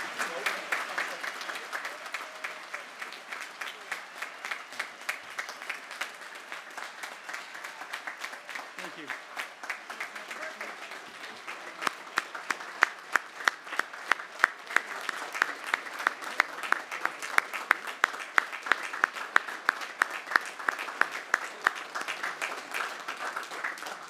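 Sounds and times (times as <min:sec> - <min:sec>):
crowd applauding: 0:00.0 - 0:24.0
loud clapping close by: 0:00.0 - 0:24.0.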